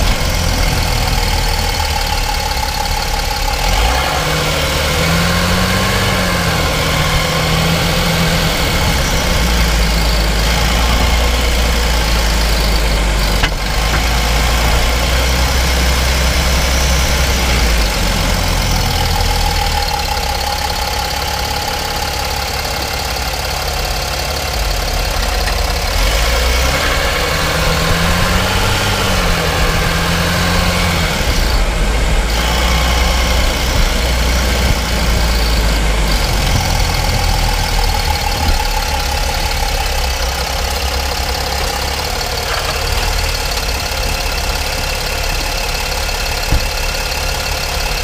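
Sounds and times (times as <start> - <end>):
low engine tone: 0.0 - 48.0
road and tyre rumble: 0.0 - 48.0.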